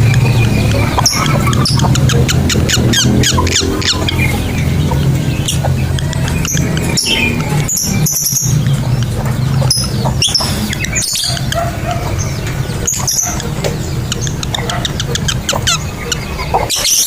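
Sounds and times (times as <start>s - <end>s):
steady low hum: 0.0s - 16.7s
lovebirds chirping: 0.0s - 17.0s.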